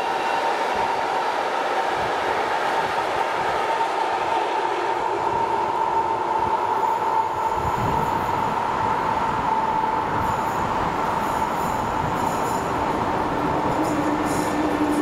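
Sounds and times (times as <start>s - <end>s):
electric locomotive rumble: 2.0s - 15.0s.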